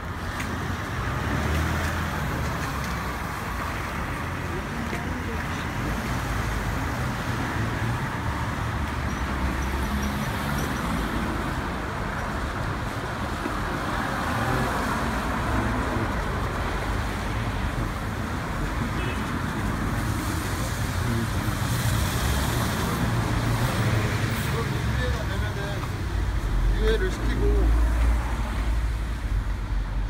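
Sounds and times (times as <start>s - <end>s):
city street traffic: 0.0s - 30.0s.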